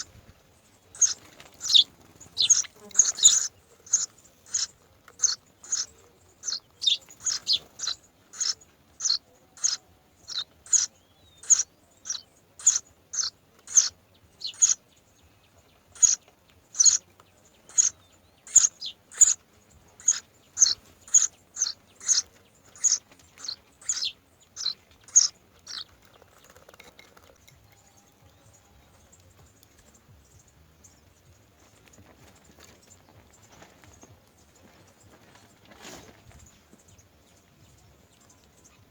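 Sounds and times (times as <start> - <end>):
myna bird chirping: 0.0 - 38.9.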